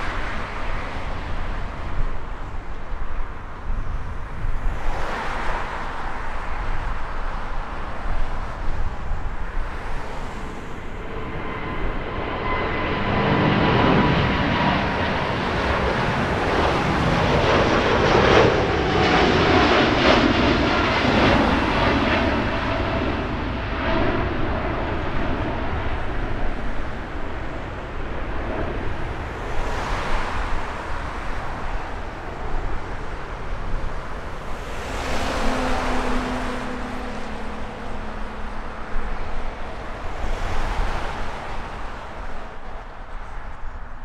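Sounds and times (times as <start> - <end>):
jet airliner engines roaring: 0.0 - 44.0.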